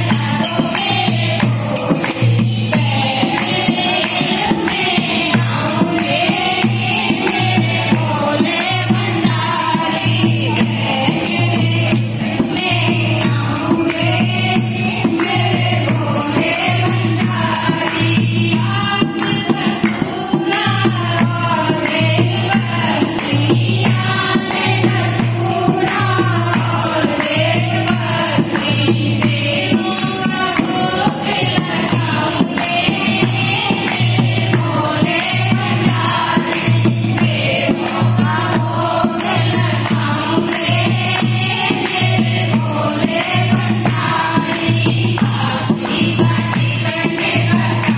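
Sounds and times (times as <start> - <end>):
group of women singing along: 0.0 - 47.9
rhythmic clapping: 0.0 - 47.9
woman singing into a microphone: 0.0 - 47.9.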